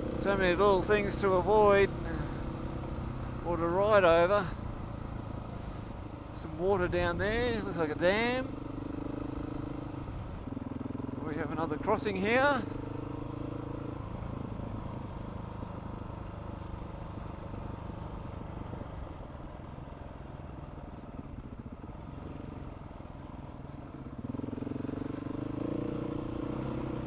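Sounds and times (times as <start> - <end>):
motorcycle engine on dirt track: 0.0 - 27.0.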